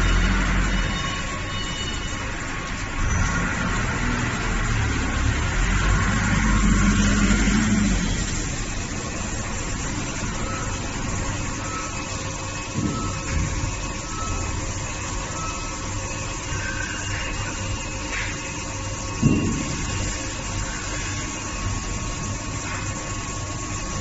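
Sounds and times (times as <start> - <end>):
machining center spindle cutting: 0.0 - 24.0.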